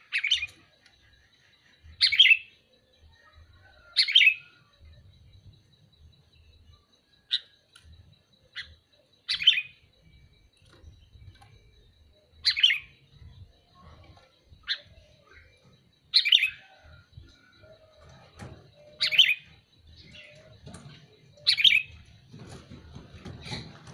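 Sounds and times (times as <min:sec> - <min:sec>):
faint steady high tone: 0:00.0 - 0:23.4
bird chirping calls: 0:00.0 - 0:23.9.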